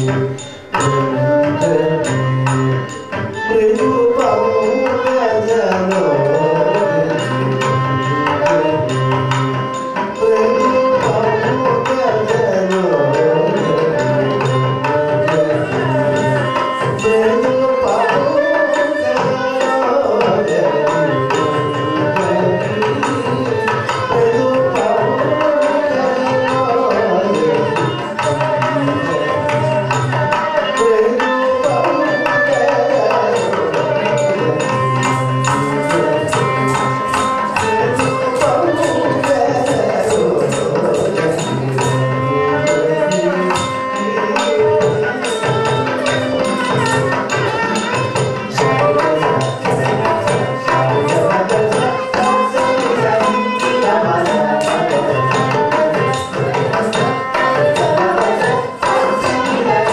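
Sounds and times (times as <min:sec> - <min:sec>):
violin melody: 0:00.0 - 0:59.9
hand-drum strokes: 0:05.7 - 0:59.9.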